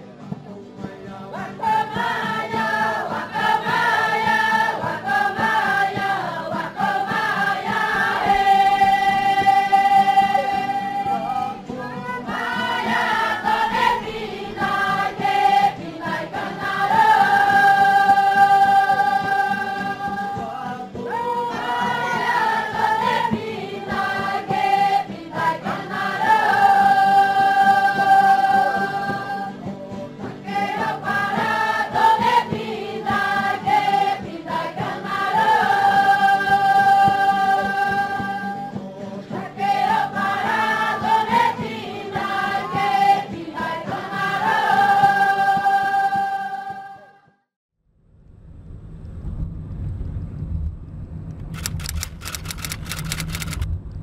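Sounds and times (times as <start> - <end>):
choir singing long held notes: 1.3 - 47.4.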